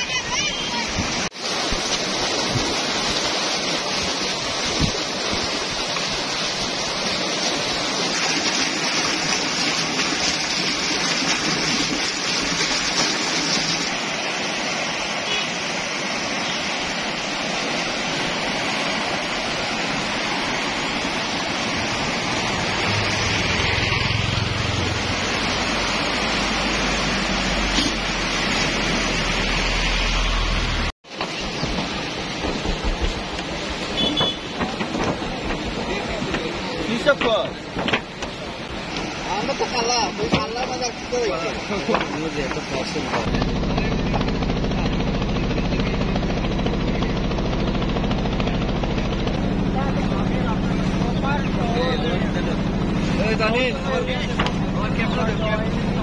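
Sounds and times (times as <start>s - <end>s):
floodwater rushing and churning: 0.0s - 56.0s.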